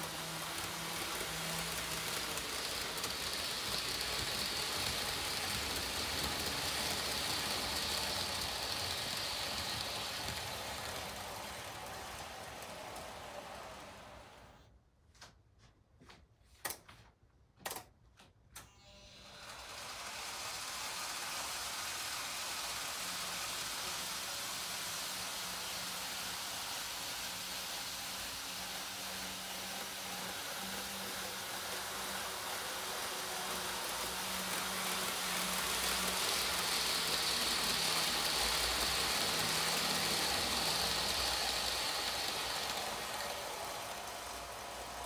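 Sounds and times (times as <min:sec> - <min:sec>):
model train motors whirring: 0:00.0 - 0:14.7, 0:18.6 - 0:45.0.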